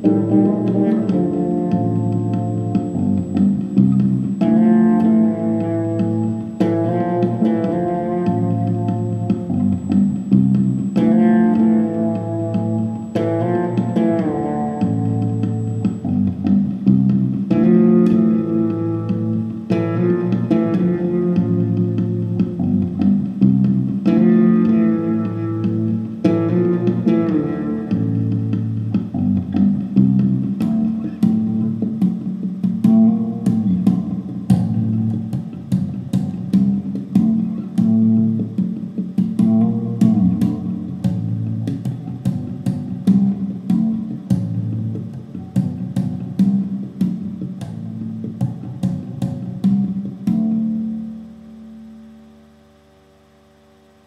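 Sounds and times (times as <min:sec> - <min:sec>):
fretless bass playing jazz: 0:00.0 - 0:52.6.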